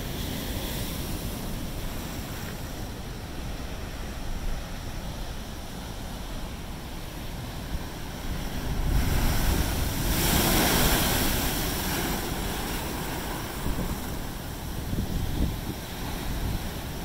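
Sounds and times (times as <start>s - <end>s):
ocean waves crashing on rocks: 0.0s - 17.0s.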